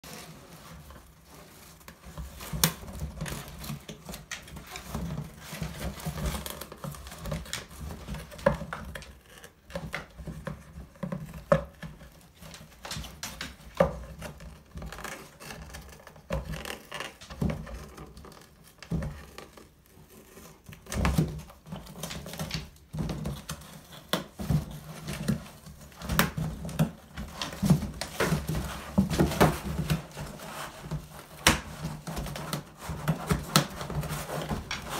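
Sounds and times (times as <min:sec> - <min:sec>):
dog rummaging in cardboard box: 0:00.0 - 0:34.9.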